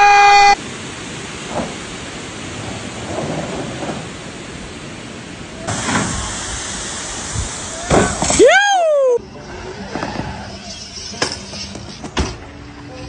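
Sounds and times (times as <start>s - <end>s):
mountain stream rushing: 0.0s - 10.6s.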